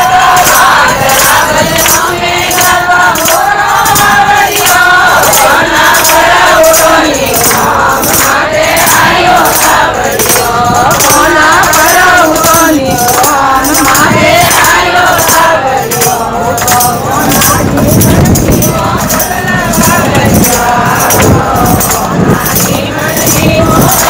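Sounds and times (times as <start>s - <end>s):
hand-clapping: 0.0s - 24.0s
women singing together: 0.0s - 24.0s.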